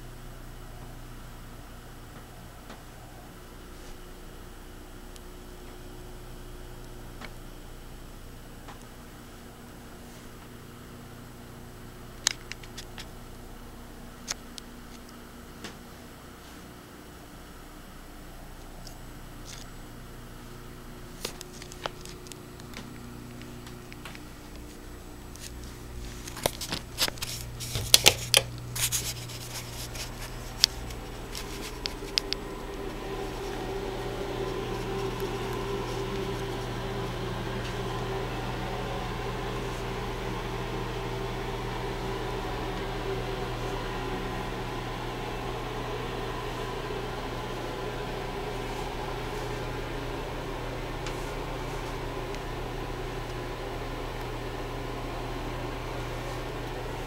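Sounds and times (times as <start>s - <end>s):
exhaust fan whirring: 0.0s - 57.0s.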